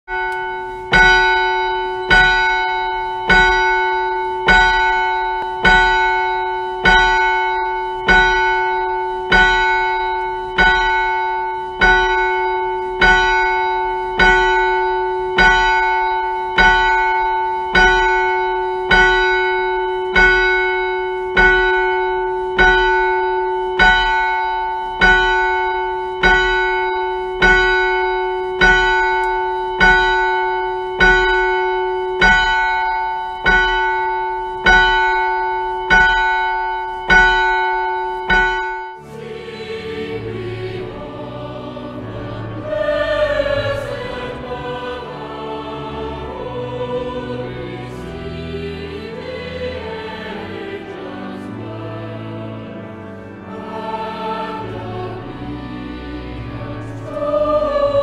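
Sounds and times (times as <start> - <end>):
church bell ringing: 0.1 - 58.0.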